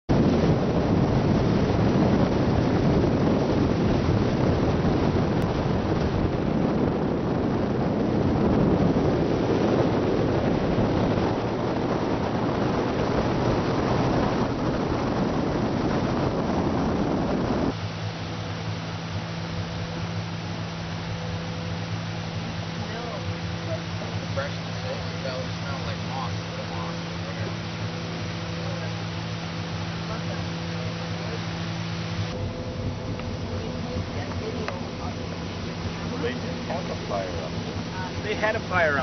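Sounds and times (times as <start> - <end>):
motorboat motor running: 0.0 - 39.0
water rushing past hull: 0.1 - 39.0
wind buffeting microphone: 0.1 - 39.0.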